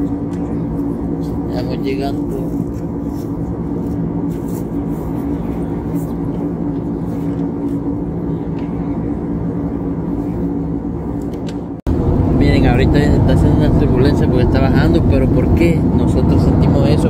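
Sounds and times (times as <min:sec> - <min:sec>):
jet engine drone in cabin: 0:00.0 - 0:17.0
rushing air: 0:00.0 - 0:17.0.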